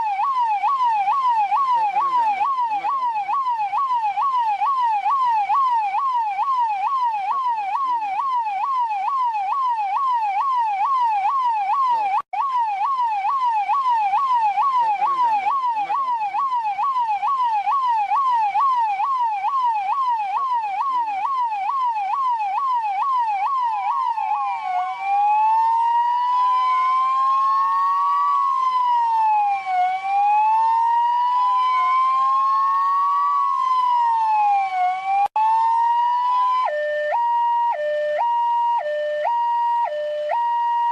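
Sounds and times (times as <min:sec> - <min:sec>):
electronic police siren: 0:00.0 - 0:40.9.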